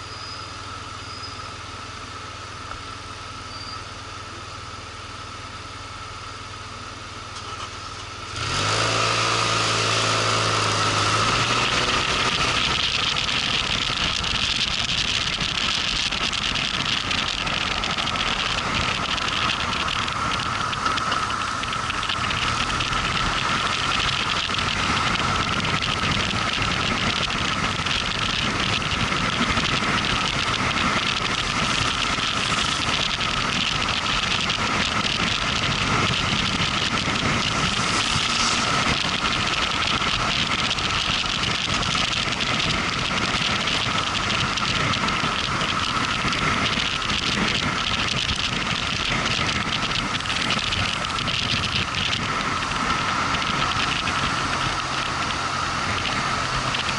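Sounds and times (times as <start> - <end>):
high whine: 0.0 - 56.9
motorcycle engine: 3.9 - 56.9
wind rushing on microphone: 8.4 - 56.9.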